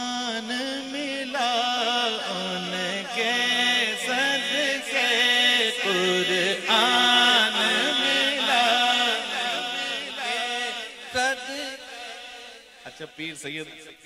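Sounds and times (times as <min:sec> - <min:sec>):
unaccompanied voices singing: 0:00.0 - 0:12.6.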